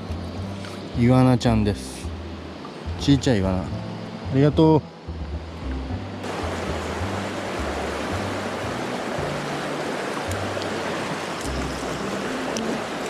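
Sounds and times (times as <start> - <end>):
background music with bass: 0.0 - 9.5, 11.4 - 12.5
stream water rushing: 0.0 - 13.0.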